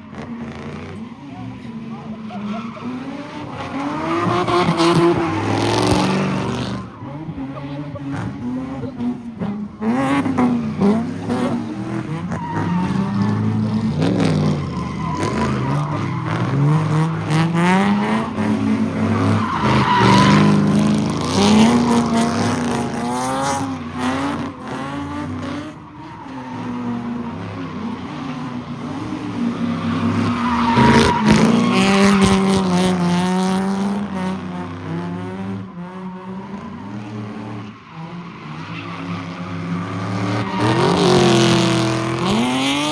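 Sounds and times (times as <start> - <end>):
car engines revving: 0.0 - 42.9
tires squealing and skidding: 0.0 - 42.9.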